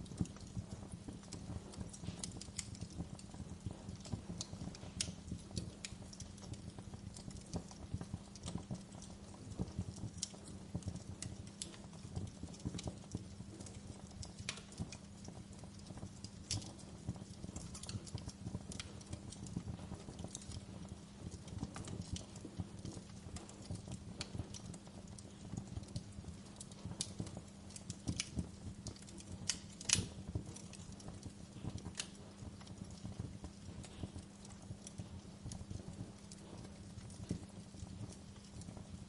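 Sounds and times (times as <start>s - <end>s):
fire crackling: 0.0s - 39.0s
fire popping and snapping: 0.0s - 39.0s.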